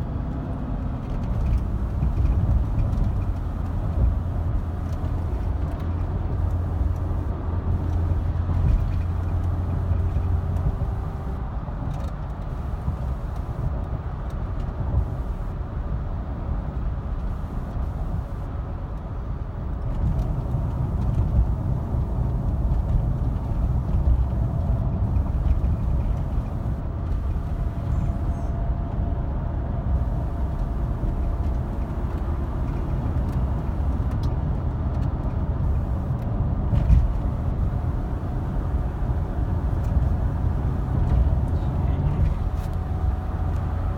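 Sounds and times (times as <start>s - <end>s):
low road rumble: 0.0s - 43.9s.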